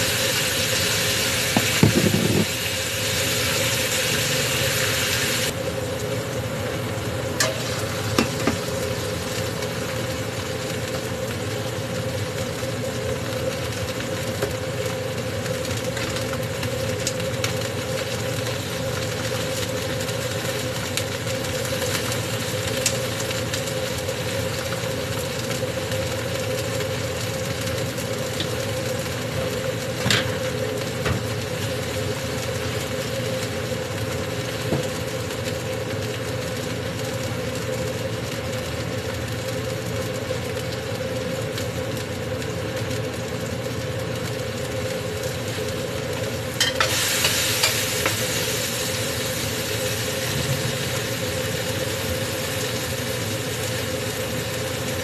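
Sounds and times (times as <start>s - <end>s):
food sizzling in a pan: 0.0s - 55.0s
mechanical hum: 0.0s - 55.0s.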